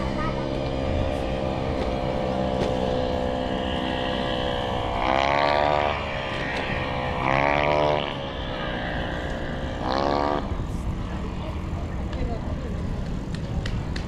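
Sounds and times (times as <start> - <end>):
engine running with throttle surges: 0.0 - 14.0.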